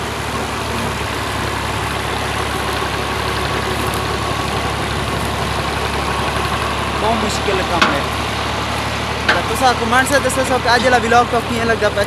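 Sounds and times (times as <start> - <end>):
boring machine engine humming: 0.0 - 12.0.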